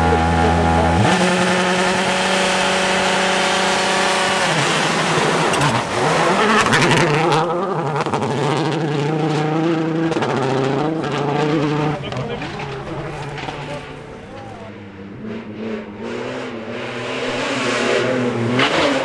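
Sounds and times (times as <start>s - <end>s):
rally car accelerating on gravel: 0.0s - 19.0s
rally car engine revving: 0.0s - 19.0s.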